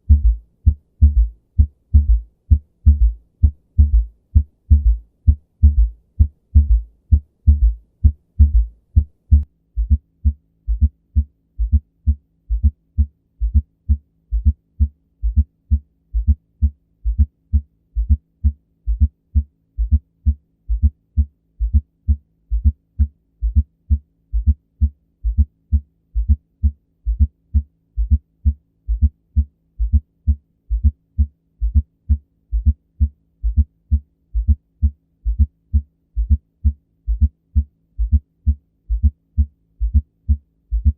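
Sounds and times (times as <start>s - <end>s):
low heart thumps: 0.0s - 27.4s, 28.0s - 31.0s, 31.6s - 40.9s
faint steady hum: 0.0s - 40.9s.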